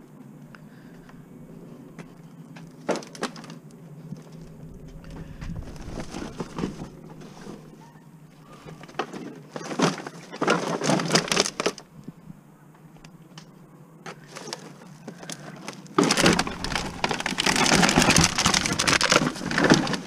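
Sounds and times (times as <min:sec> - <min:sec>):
plastic bags rustling and crinkling: 0:00.8 - 0:07.8, 0:08.4 - 0:13.5, 0:14.1 - 0:20.0.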